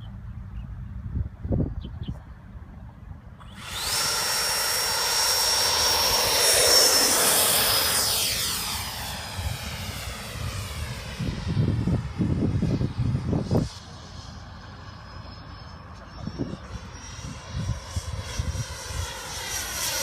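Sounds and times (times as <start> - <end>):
model jet fan whine: 2.5 - 20.0.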